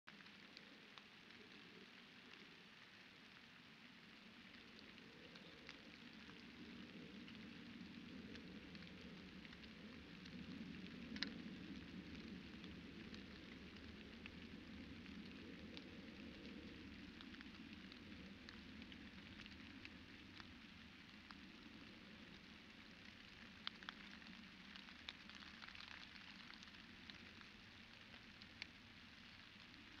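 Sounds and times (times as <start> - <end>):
light rain pattering: 0.0 - 30.0.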